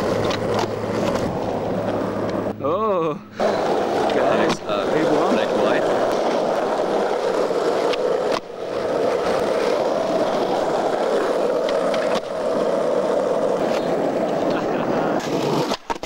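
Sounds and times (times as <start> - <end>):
skateboard wheels rolling on asphalt: 0.0 - 2.6, 3.3 - 16.0.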